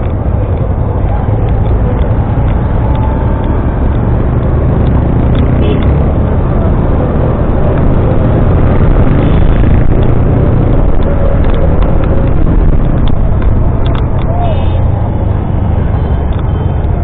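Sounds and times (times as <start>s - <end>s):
motorcycle engine rumble: 0.0s - 17.0s
wind and road noise: 0.0s - 17.0s.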